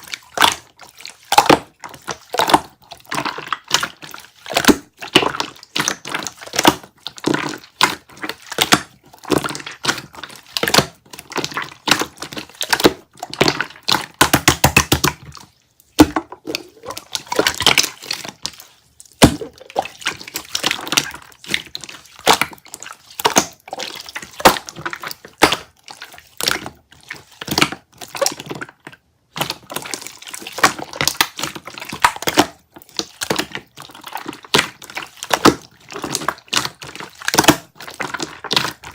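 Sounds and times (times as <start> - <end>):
slime squelching by hand: 0.0 - 38.9.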